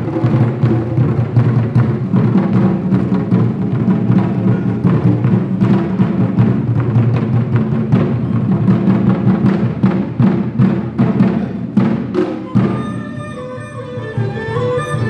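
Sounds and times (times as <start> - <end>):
barrel drums beaten fast: 0.0 - 15.0.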